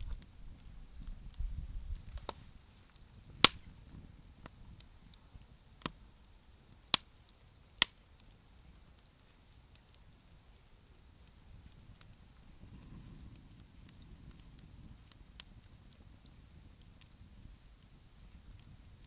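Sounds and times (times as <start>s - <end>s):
bonfire crackling and popping: 0.0s - 19.0s
faint steady hiss: 0.0s - 19.0s.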